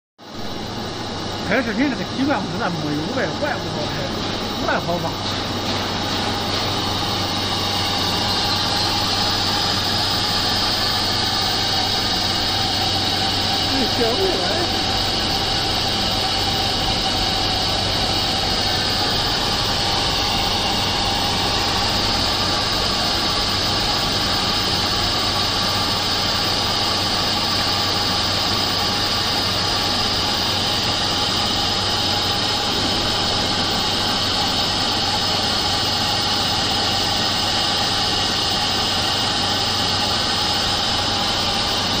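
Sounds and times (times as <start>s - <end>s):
steady machine hiss: 0.2s - 42.0s
low electrical hum: 0.3s - 42.0s.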